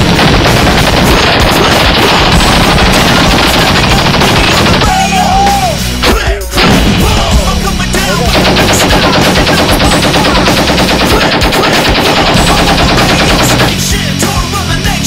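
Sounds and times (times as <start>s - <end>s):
machine guns firing automatic: 0.0s - 5.2s, 6.6s - 14.0s.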